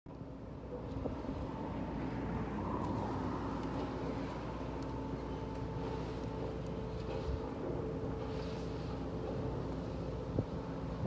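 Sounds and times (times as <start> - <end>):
faint steady hum: 0.1 - 11.0
wind buffeting microphone: 0.8 - 11.0.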